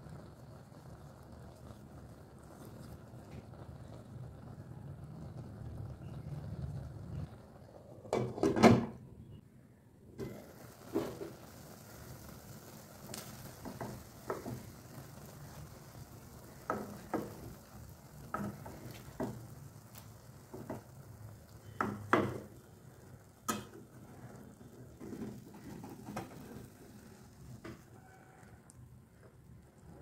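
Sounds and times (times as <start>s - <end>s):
food sizzling in frying pan: 0.0s - 8.5s, 10.2s - 30.0s.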